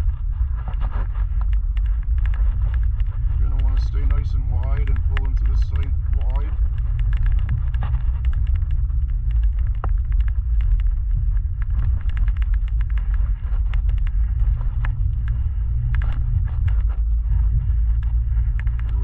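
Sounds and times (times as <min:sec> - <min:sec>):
engine and tyres rumbling: 0:00.0 - 0:19.0
gravel clicks and crackles: 0:00.0 - 0:19.0.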